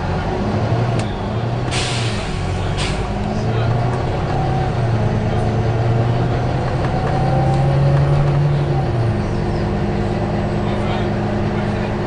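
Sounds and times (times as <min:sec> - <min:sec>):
bus diesel engine pulling: 0:00.0 - 0:12.0.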